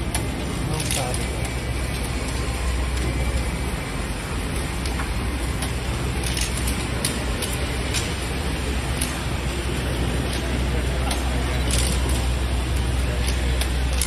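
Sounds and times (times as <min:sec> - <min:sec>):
boring machine grinding rumble: 0:00.0 - 0:14.0.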